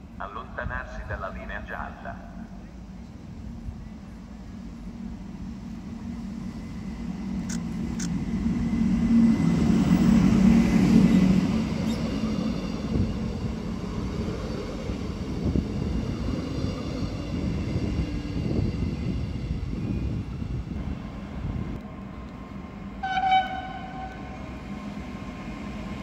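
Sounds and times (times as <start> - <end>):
diesel locomotive engine hum: 0.0 - 26.0
railcar wheels rumbling on rails: 1.8 - 26.0.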